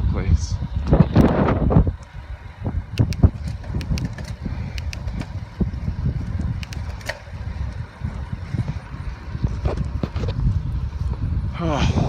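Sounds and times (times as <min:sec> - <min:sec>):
wind buffeting microphone: 0:00.0 - 0:12.0
bicycle clicks and rattles: 0:00.8 - 0:11.3.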